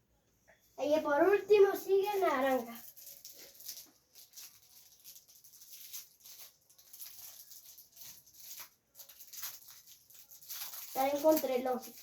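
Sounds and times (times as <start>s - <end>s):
plastic wrapper crinkling: 1.4s - 12.0s.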